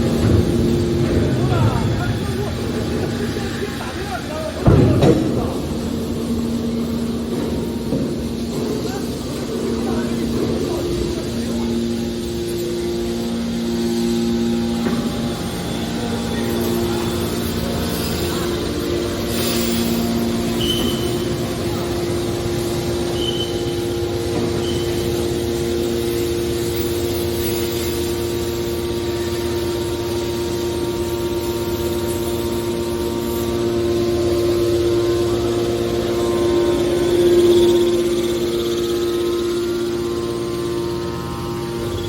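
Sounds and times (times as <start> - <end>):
hydraulic baler whining hum: 0.0 - 42.0.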